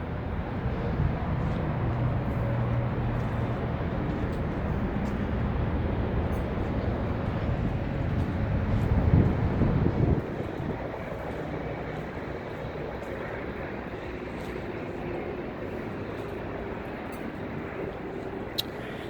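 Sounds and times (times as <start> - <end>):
vehicle noise rumble: 0.0 - 19.0.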